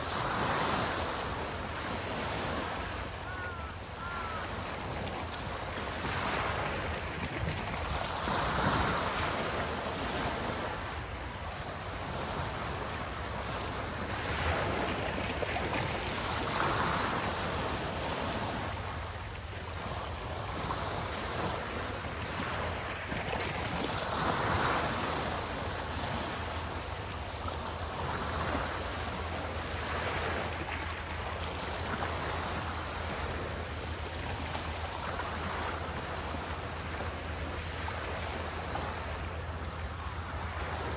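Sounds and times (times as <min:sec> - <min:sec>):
small waves washing onto shore: 0:00.0 - 0:40.9.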